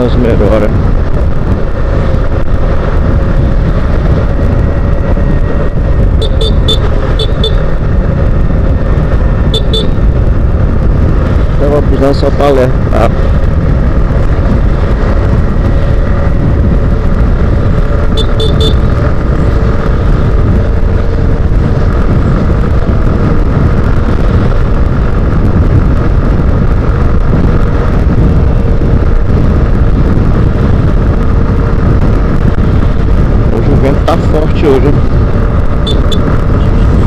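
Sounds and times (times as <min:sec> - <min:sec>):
motorcycle engine hum: 0:00.0 - 0:37.0
wind noise on microphone: 0:00.0 - 0:37.0.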